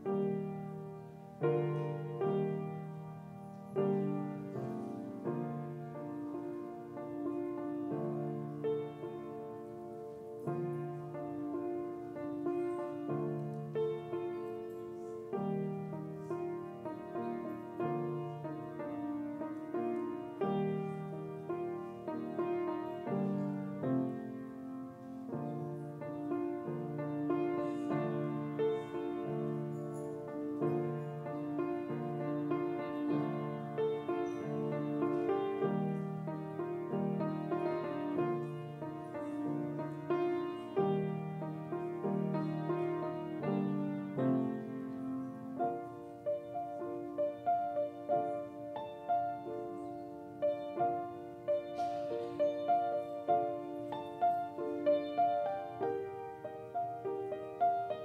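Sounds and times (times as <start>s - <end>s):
slow piano chords: 0.0s - 58.0s.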